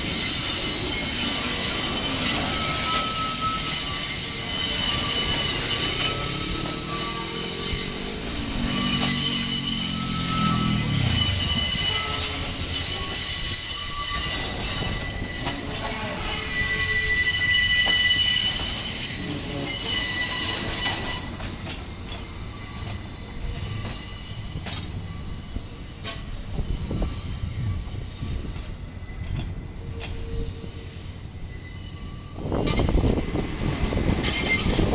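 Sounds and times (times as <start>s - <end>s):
train rumble: 0.0s - 34.9s
train wheels squealing on track: 0.0s - 34.9s.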